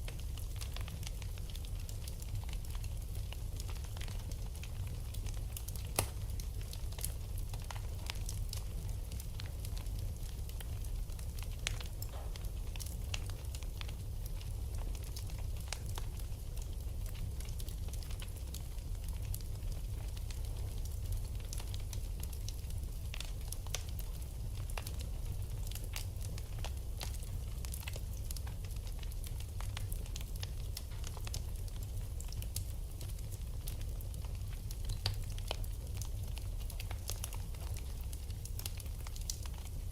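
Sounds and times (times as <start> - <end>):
low rumble of fire: 0.0 - 39.9
wood fire crackling and popping: 0.0 - 39.9.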